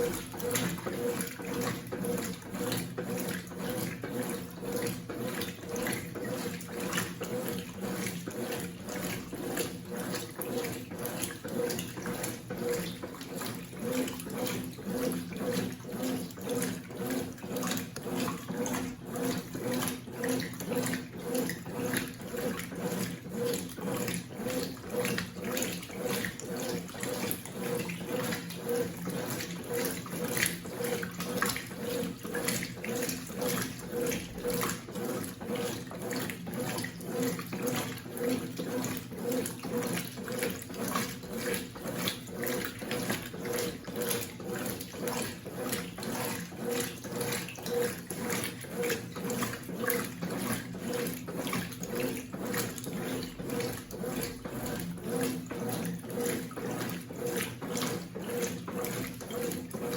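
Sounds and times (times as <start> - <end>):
washing machine motor hum: 0.0 - 59.9
water sloshing in drum: 0.0 - 59.9.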